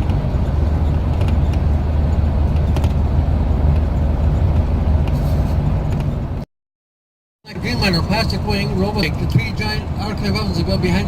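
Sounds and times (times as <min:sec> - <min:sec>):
vehicle engine and road rumble: 0:00.0 - 0:06.5, 0:07.5 - 0:11.0.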